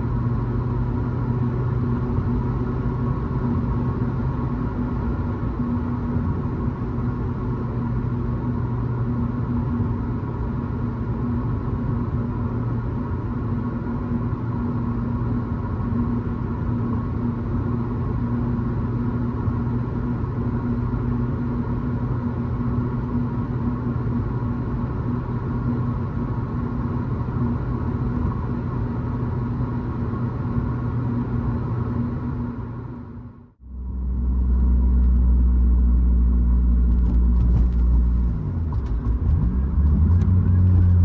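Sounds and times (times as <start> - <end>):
car engine low drone: 0.0 - 41.0.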